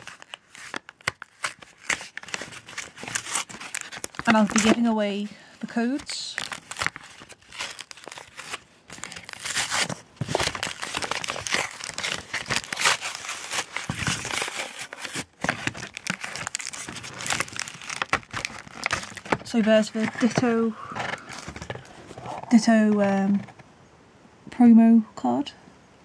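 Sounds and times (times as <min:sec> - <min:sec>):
card backing tearing: 0:00.0 - 0:23.5
plastic packaging crinkling: 0:00.0 - 0:23.6.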